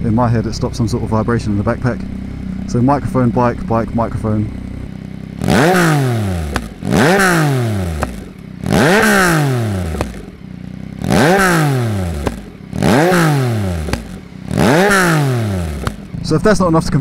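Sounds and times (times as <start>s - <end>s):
exhaust popping: 0.0s - 17.0s
motorcycle engine revving: 0.0s - 17.0s.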